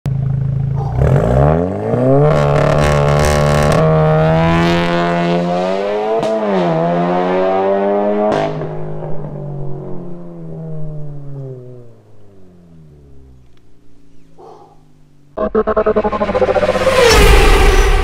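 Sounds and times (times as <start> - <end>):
car engine accelerating hard: 0.6 - 13.5, 15.4 - 18.0.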